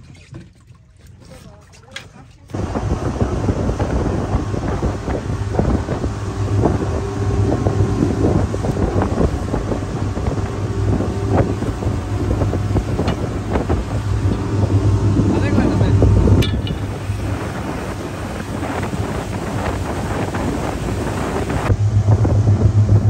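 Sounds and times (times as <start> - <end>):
wind buffeting microphone: 2.5 - 23.0.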